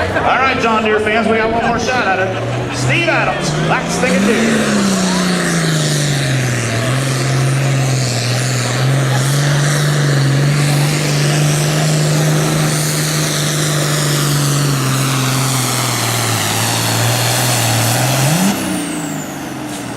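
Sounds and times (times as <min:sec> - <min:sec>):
diesel tractor engine under load: 0:00.0 - 0:19.9.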